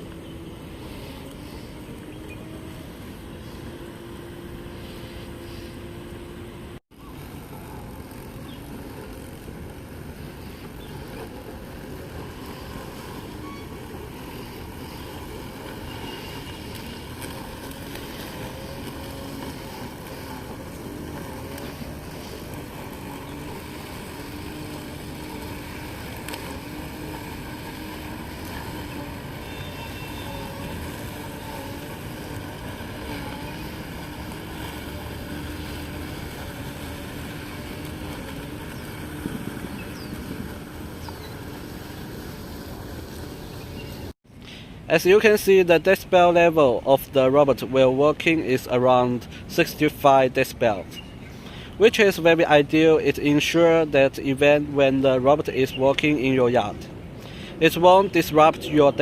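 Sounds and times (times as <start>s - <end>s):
robotic lawn mower humming: 0.0s - 59.0s.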